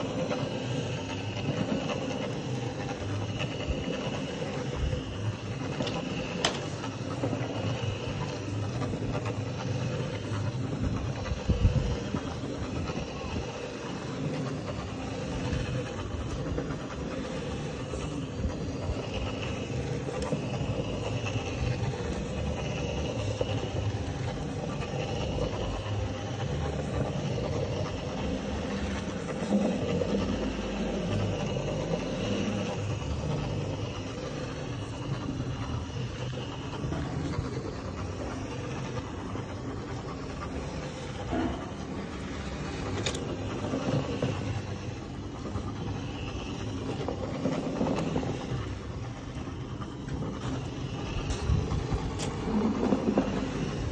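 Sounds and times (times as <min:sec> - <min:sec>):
floor scrubbing machine running: 0:00.0 - 0:53.9.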